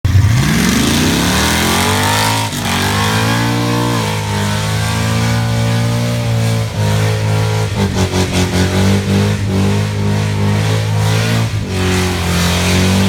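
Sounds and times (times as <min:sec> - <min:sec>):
car engine accelerating hard: 0:00.1 - 0:13.0.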